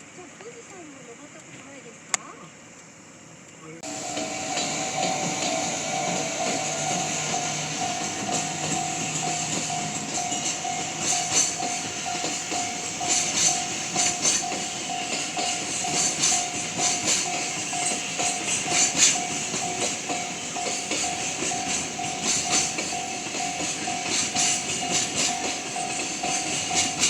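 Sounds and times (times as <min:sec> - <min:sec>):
level-crossing alarm ringing: 0:03.8 - 0:27.0
passing train clatter: 0:03.8 - 0:27.0.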